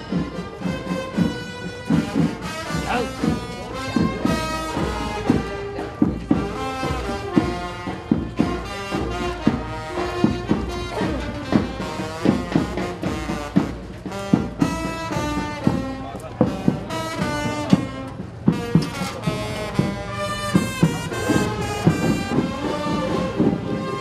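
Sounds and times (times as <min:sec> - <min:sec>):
brass band horns playing: 0:00.0 - 0:24.0
drum strikes: 0:00.0 - 0:24.0.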